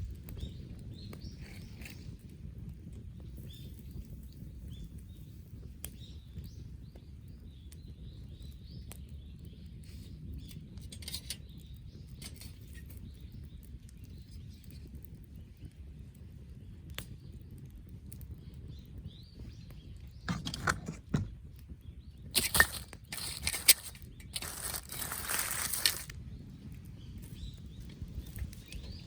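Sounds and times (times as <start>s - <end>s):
campfire crackling: 0.0s - 29.0s
small birds chirping: 0.0s - 29.0s.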